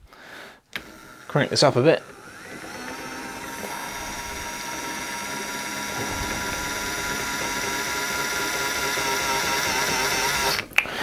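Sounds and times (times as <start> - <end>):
electric motor whine: 0.8 - 10.6.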